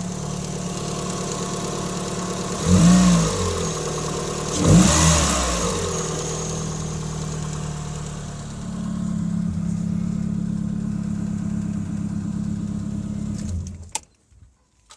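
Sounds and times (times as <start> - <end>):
car engine revving and idling: 0.0 - 13.8.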